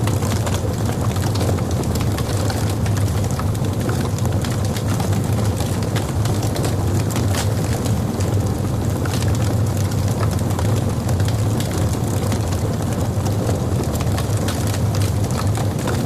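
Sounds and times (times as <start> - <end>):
logs burning in fireplace: 0.0 - 16.0.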